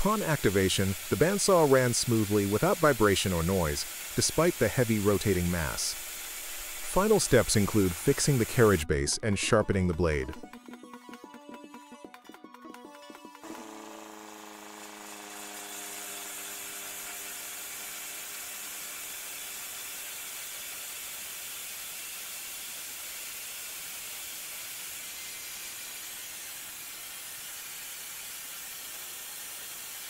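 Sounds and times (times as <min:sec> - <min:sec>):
bandsaw running idle: 0:00.0 - 0:09.0, 0:13.1 - 0:30.0.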